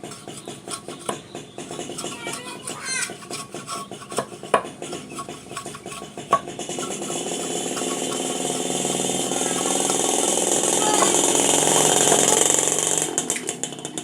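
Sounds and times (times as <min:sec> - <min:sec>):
tools and bamboo knocking: 0:00.0 - 0:13.6
power tool buzzing: 0:00.0 - 0:13.9.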